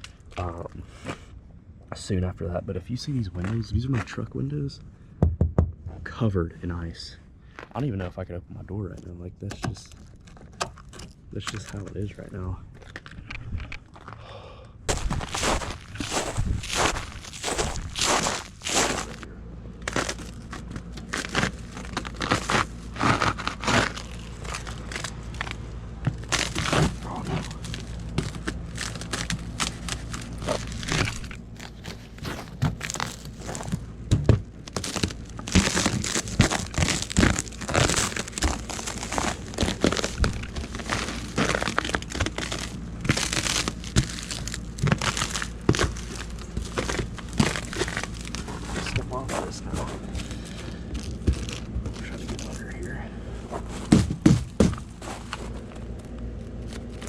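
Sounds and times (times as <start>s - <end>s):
ice crust crunching and cracking: 0.0s - 1.3s, 3.0s - 4.7s, 7.5s - 57.0s
steady low hum: 0.0s - 57.0s.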